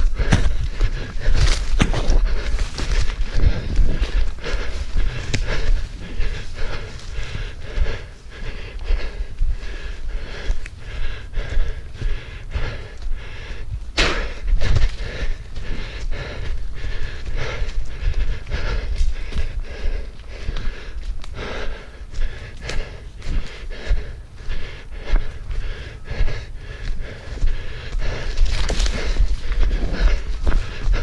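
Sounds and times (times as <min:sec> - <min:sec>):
runner panting: 0:00.0 - 0:31.0
running footfalls: 0:00.0 - 0:31.0.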